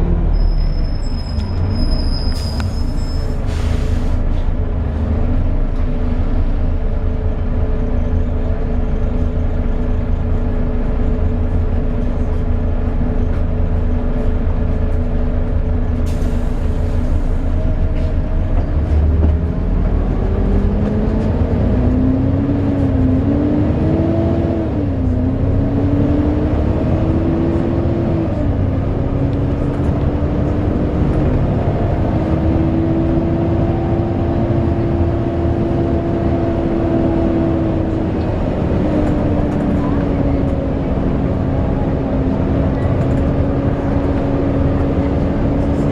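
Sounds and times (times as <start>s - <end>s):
bus diesel engine rumbling: 0.0s - 45.9s.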